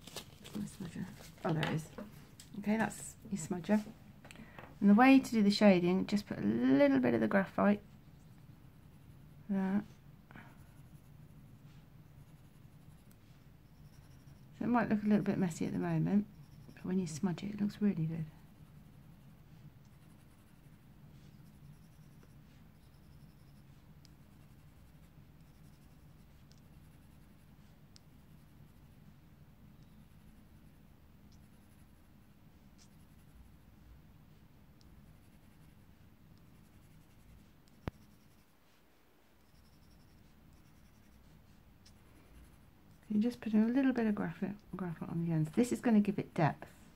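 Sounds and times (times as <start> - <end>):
low steady hum: 0.0 - 46.9
pencil scratching on paper: 5.9 - 44.2.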